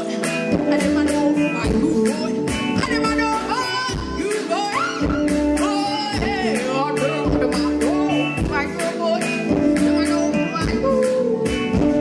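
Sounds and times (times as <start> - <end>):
live band music: 0.0 - 12.0
woman singing: 0.0 - 12.0
drum beat: 0.2 - 12.0.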